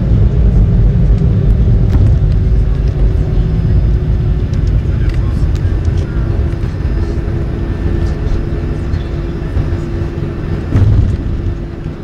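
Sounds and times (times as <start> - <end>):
droning tone: 0.0 - 12.0
jet engines rumbling in cabin: 0.0 - 12.0.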